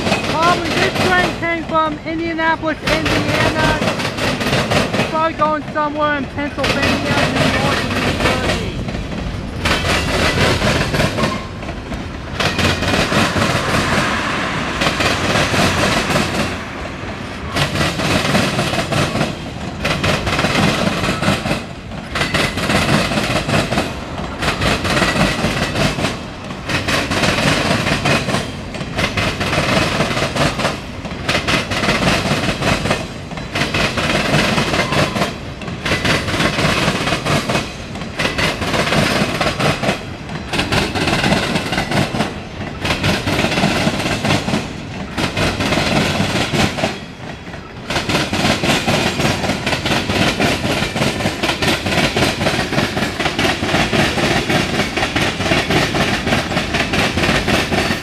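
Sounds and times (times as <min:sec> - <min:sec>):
freight train wheels clacking on rails: 0:00.0 - 0:58.0.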